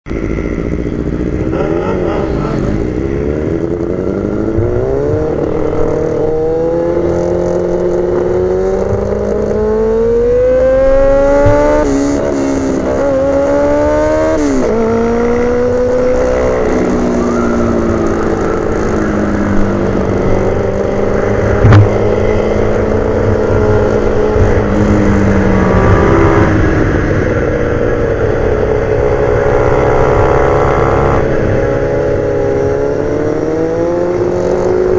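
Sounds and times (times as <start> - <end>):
wind and road noise: 0.0 - 34.9
motorcycle engine accelerating: 0.1 - 34.9.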